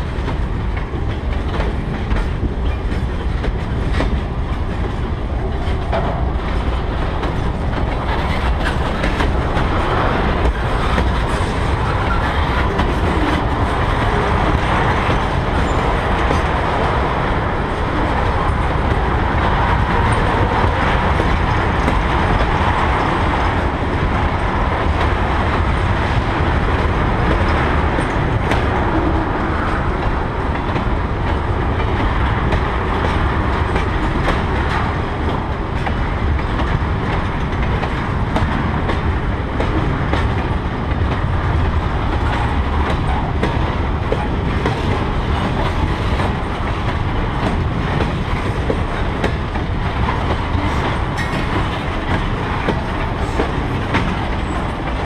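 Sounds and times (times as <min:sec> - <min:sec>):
clacks at rail joints: 0:00.0 - 0:55.0
train wheels rumbling on rails: 0:00.0 - 0:55.0.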